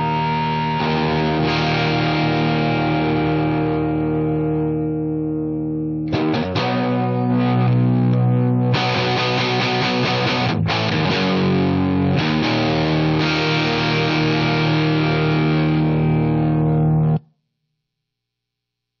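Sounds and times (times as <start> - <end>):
electric guitar chords: 0.0 - 17.2.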